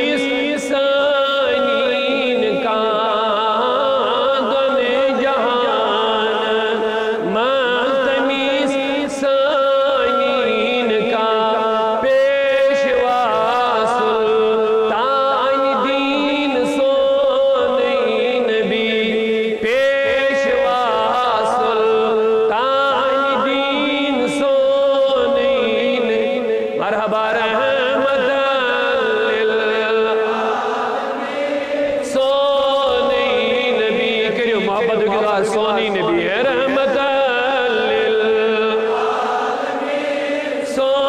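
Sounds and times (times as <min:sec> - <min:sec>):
man singing devotional melody: 0:00.0 - 0:41.0.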